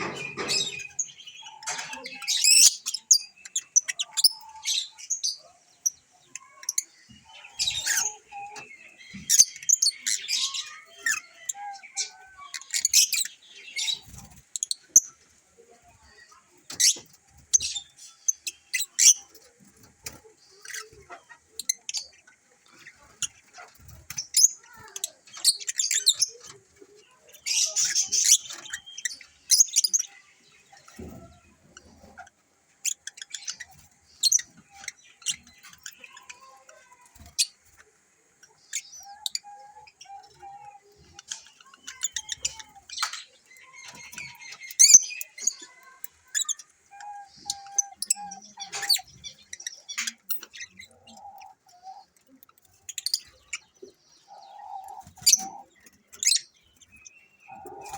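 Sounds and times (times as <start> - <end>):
lovebirds chirping and chattering: 0.0 - 57.9.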